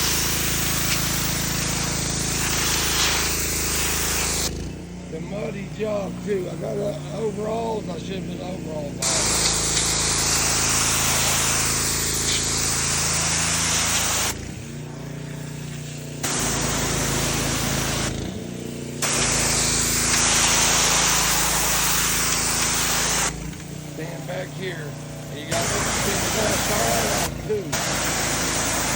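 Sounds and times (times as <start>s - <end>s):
pressure washer engine droning: 0.0s - 28.9s
water jet hissing: 0.0s - 28.9s.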